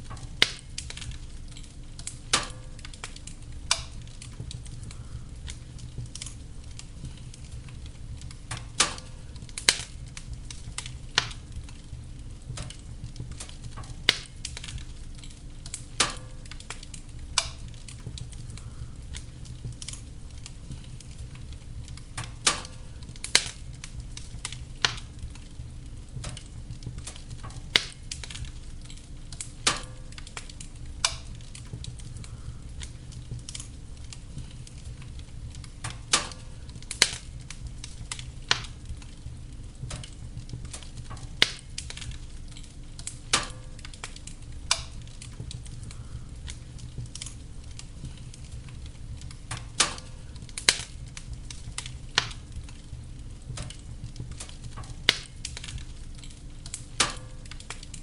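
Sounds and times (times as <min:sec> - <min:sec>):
fire low rumble: 0:00.0 - 0:58.0
sharp pops of fire: 0:00.0 - 0:58.0
wood fire crackling: 0:00.0 - 0:58.0.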